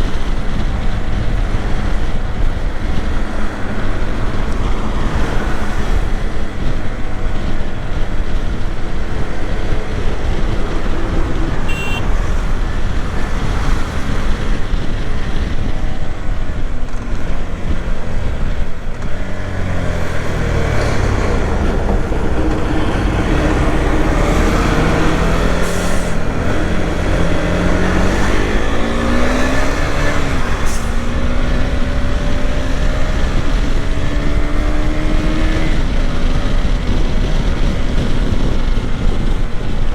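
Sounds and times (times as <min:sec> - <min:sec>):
motorcycle engine and exhaust: 0:00.0 - 0:39.9
wind rushing on microphone: 0:00.0 - 0:39.9.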